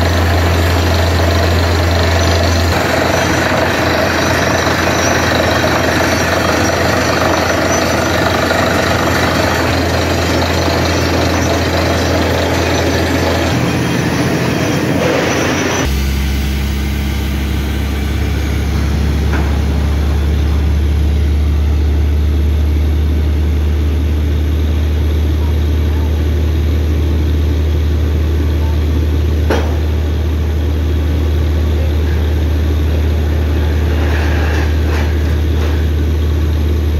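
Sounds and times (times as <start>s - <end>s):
diesel engine rumble: 0.0s - 36.9s.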